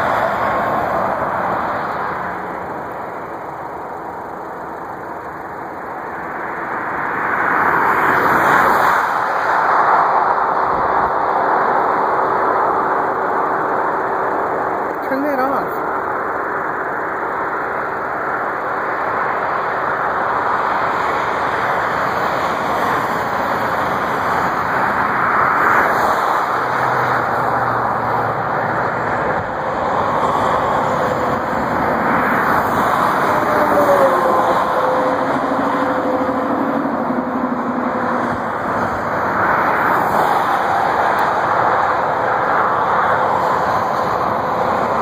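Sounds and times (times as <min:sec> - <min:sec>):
road and wind noise inside car: 0:00.0 - 0:45.0.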